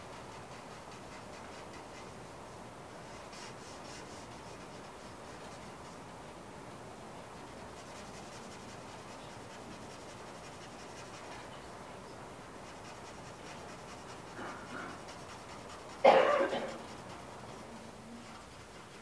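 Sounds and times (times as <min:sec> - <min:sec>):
pencil scratching on paper: 0:00.0 - 0:02.4, 0:03.0 - 0:06.2, 0:07.2 - 0:19.0.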